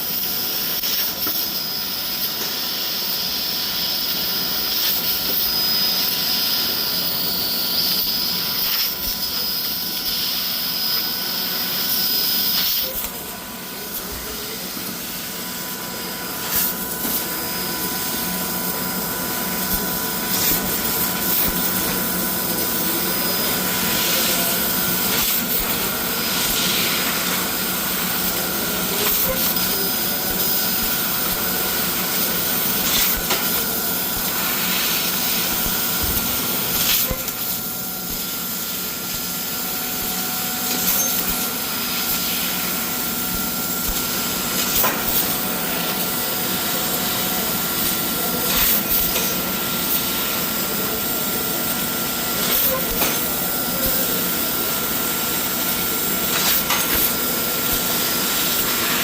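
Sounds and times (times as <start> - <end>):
laser cutter hissing: 0.0 - 59.0.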